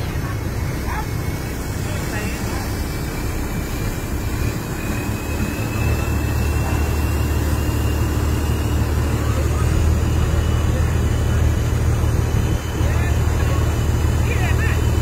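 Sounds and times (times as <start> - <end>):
diesel engine running under load: 0.0 - 15.0
high whine rising in pitch: 0.0 - 15.0.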